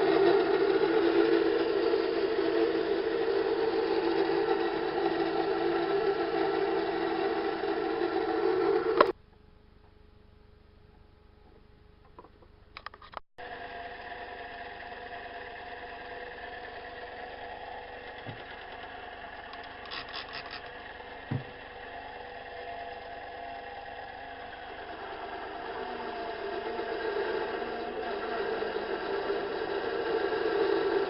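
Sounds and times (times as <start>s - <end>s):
metal lathe motor hum: 0.0s - 9.2s, 13.4s - 31.0s.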